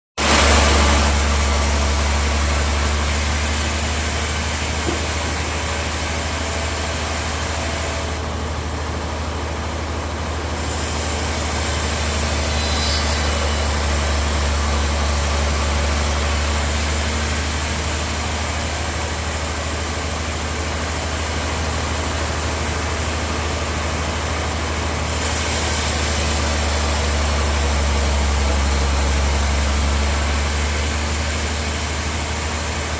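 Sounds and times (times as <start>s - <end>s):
bandsaw machinery running: 0.2s - 32.9s.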